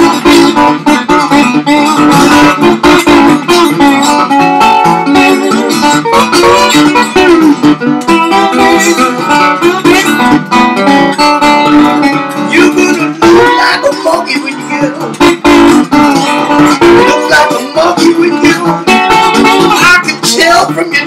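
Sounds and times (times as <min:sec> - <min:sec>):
slide guitar fingerpicking: 0:00.0 - 0:21.0.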